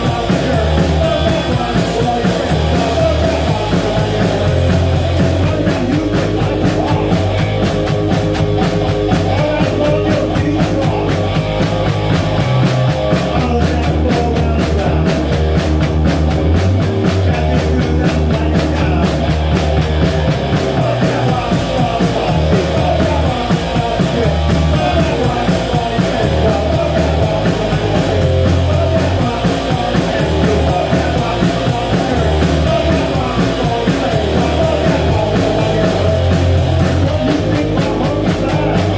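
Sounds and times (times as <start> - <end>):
distorted electric guitar: 0.0 - 38.9
drum kit: 0.0 - 38.9
electric bass: 0.0 - 38.9
man singing: 0.0 - 38.9.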